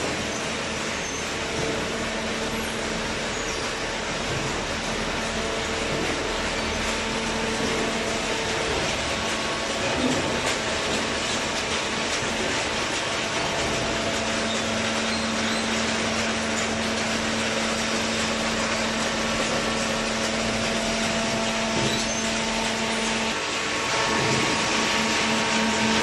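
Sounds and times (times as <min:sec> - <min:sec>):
machine noise: 0:00.0 - 0:26.0.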